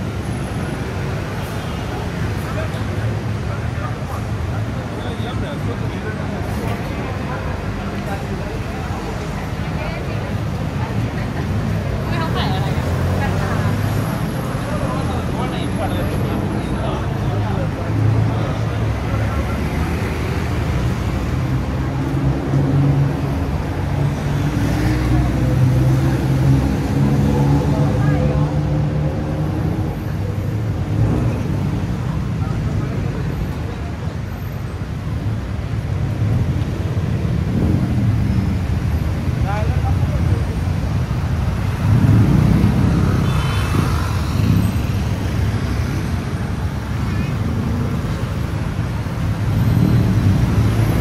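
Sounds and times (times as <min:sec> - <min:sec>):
city street traffic: 0:00.0 - 0:51.0
voices of people passing: 0:00.0 - 0:51.0.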